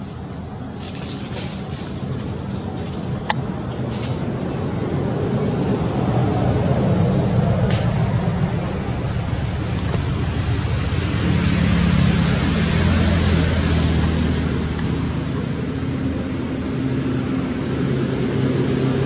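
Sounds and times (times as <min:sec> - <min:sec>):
engine humming with hiss: 0:00.0 - 0:19.0.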